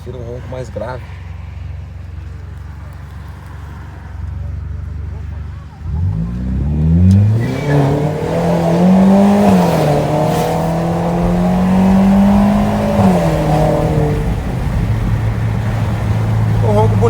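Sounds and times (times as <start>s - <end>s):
shrill car engine accelerating: 0.0s - 17.0s.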